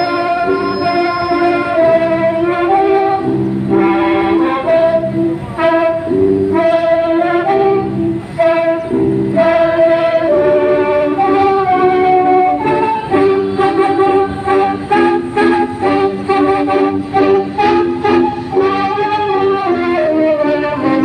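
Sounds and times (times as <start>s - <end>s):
melody over sustained chords: 0.0s - 21.0s.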